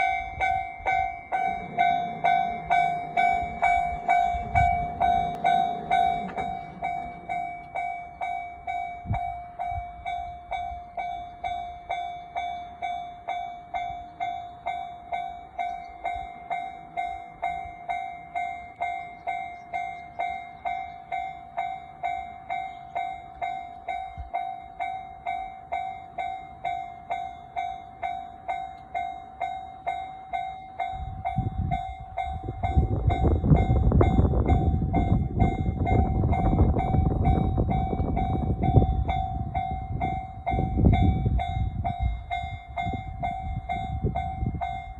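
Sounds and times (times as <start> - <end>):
level crossing warning bell: 0.0 - 44.9
train rumbling past: 0.0 - 44.9.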